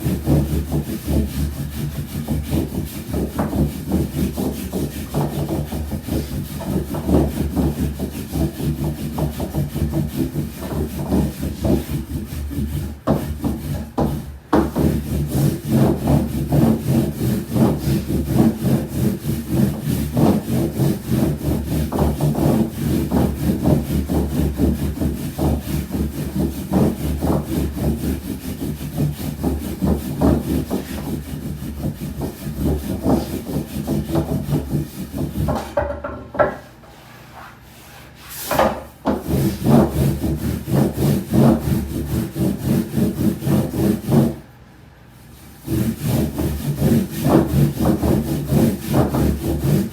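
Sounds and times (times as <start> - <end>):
rolling pin on dough: 0.0 - 44.5, 45.2 - 49.9.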